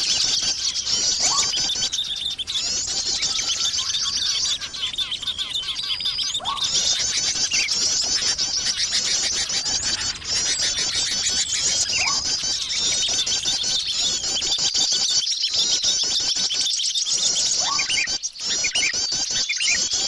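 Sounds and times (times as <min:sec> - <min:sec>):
small birds chirping and twittering: 0:00.0 - 0:20.0.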